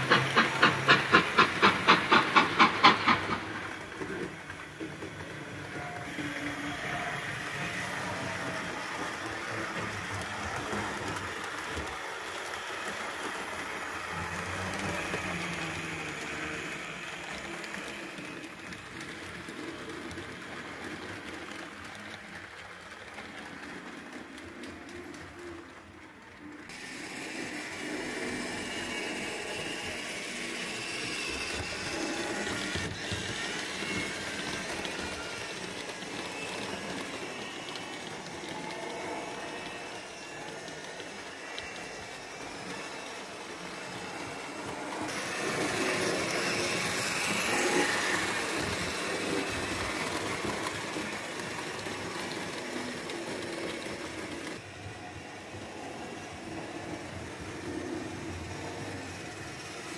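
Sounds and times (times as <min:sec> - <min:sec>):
model train wheels rattling: 0:00.0 - 0:59.9.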